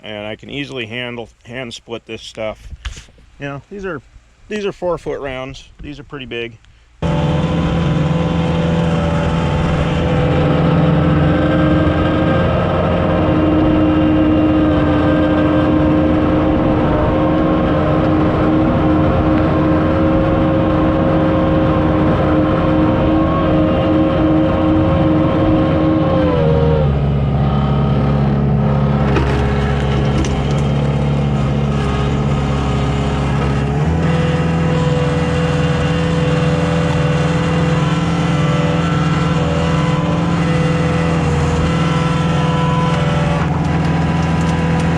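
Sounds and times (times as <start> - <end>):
diesel engine running: 7.0 - 44.9.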